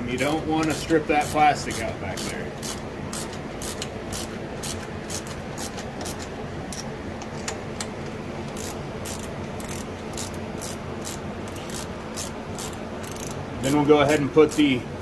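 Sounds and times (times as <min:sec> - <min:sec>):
hand ratchet pawl rasping: 0:00.2 - 0:06.2, 0:08.5 - 0:14.7.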